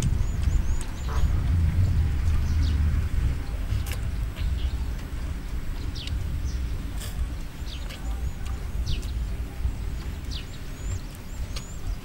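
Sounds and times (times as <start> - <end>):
low rumble: 0.0 - 11.1
birds chirping: 0.0 - 12.0.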